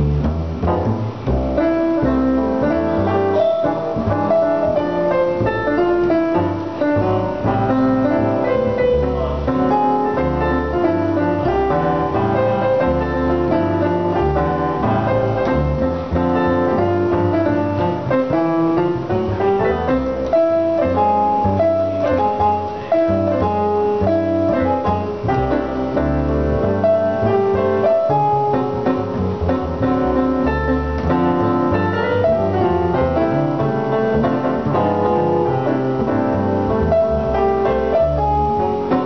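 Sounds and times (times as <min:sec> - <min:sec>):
jazz piano chords and melody: 0:00.0 - 0:39.0
plucked upright bass: 0:00.0 - 0:39.0.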